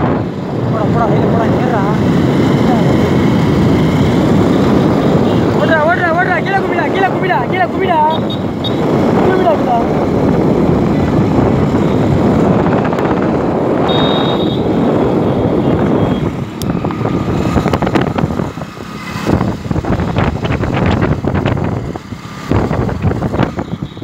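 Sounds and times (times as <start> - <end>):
road and vehicle noise: 0.0 - 24.0
wind rushing over microphone: 0.0 - 24.0.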